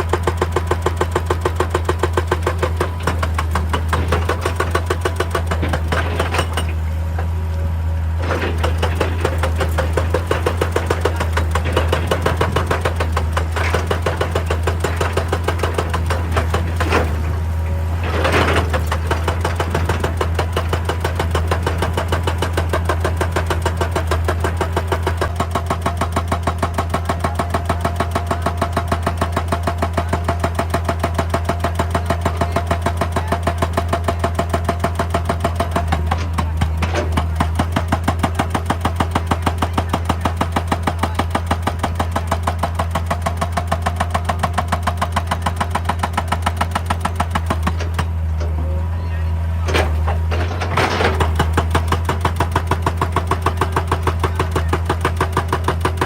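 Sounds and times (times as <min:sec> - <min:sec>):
diesel engine running: 0:00.0 - 0:56.0
hydraulic rock breaker hammering: 0:00.0 - 0:56.0.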